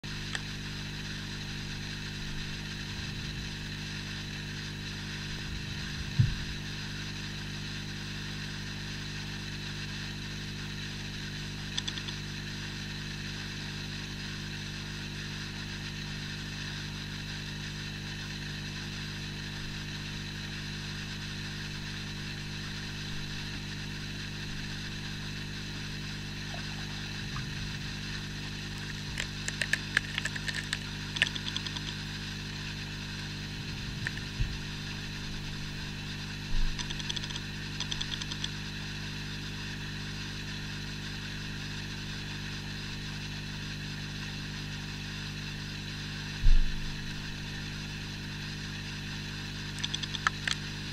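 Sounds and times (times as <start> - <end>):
aquarium skimmer humming: 0.0 - 50.9.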